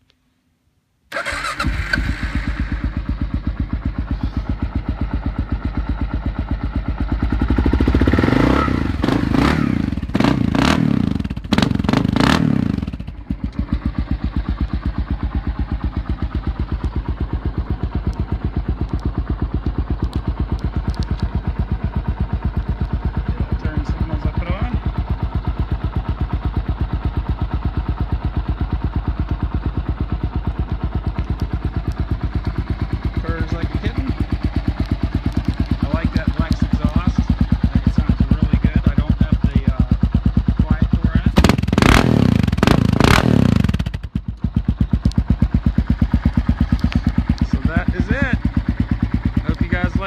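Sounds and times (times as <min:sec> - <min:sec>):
motorcycle engine revving: 0:01.1 - 0:50.0
motorcycle engine starting and idling: 0:01.1 - 0:50.0.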